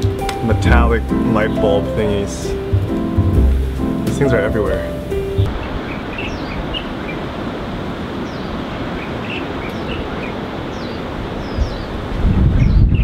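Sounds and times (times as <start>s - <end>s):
birds chirping: 0.0s - 13.0s
steady outdoor hiss: 0.0s - 13.0s.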